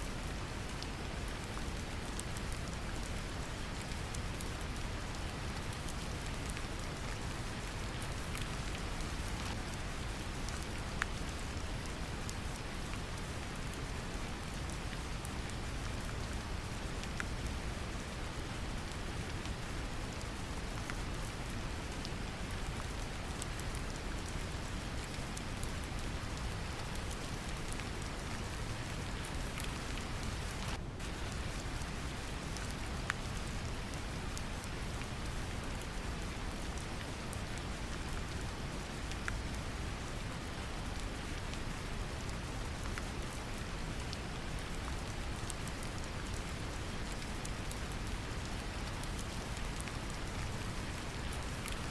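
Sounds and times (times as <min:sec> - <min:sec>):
gentle rain: 0:00.0 - 0:51.9.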